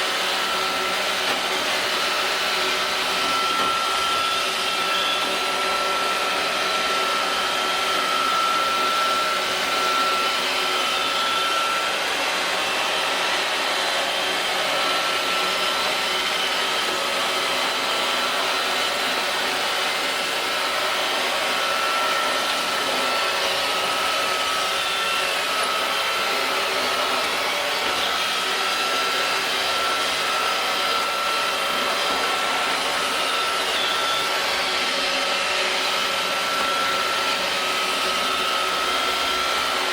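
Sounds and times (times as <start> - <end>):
robot vacuum running: 0.0 - 39.9.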